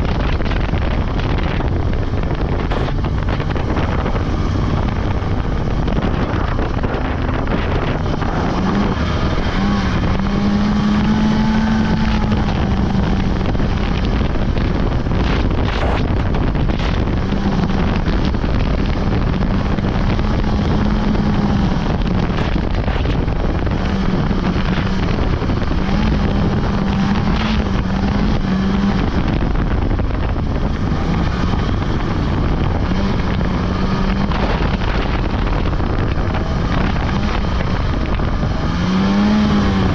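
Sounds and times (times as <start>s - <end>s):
snowmobile engine running: 0.0s - 39.9s
wind noise on microphone: 0.0s - 39.9s.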